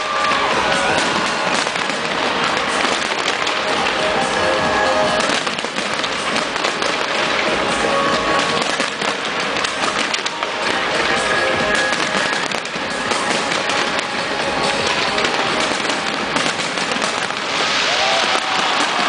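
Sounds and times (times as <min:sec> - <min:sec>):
fireworks crackling and popping: 0:00.0 - 0:19.0
music: 0:00.0 - 0:19.0.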